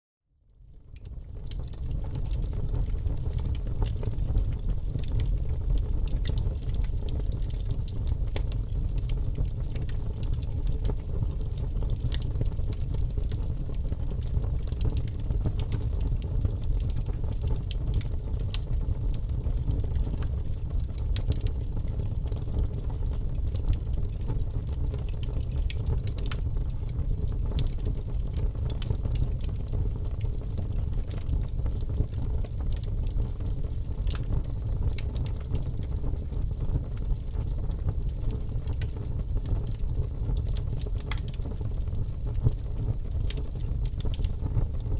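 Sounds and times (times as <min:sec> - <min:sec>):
fire crackles and pops: 0:00.6 - 0:44.9
fire flame rumble: 0:00.8 - 0:44.9.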